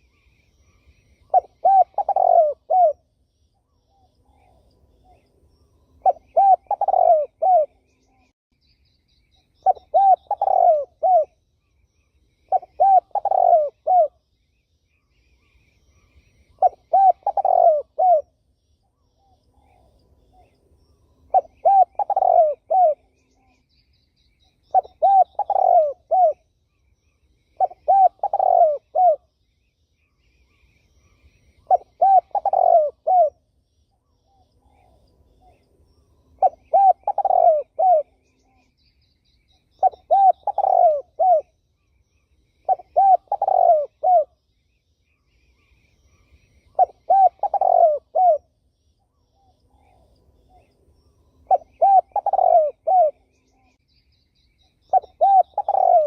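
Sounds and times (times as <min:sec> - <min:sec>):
turtle dove cooing: 0:00.0 - 0:05.3, 0:06.0 - 0:08.3, 0:09.4 - 0:11.4, 0:12.4 - 0:14.2, 0:15.4 - 0:20.6, 0:21.2 - 0:23.7, 0:24.4 - 0:26.5, 0:27.4 - 0:29.4, 0:30.4 - 0:44.4, 0:45.4 - 0:53.8, 0:54.6 - 0:56.0
small bird chirping: 0:00.0 - 0:56.0.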